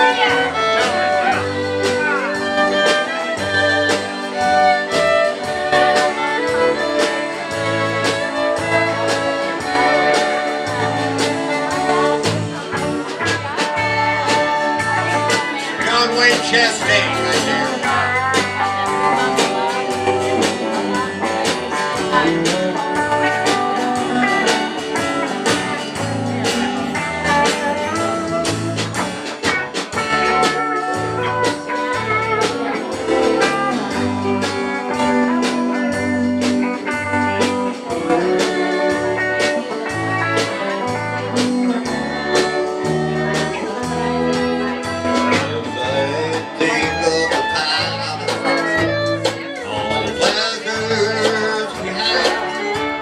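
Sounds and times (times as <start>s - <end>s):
bass line: 0.0s - 53.0s
drums beating: 0.0s - 53.0s
fiddle: 0.0s - 53.0s
guitars: 0.0s - 53.0s.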